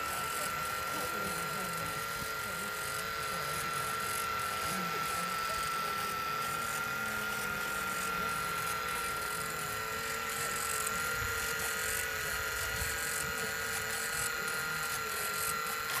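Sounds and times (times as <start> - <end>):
small electric motor and propeller whine: 0.0 - 16.0.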